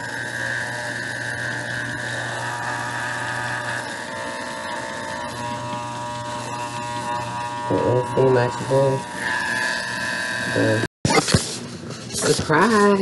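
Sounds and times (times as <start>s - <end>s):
electric pet clippers buzzing: 0.0s - 11.3s.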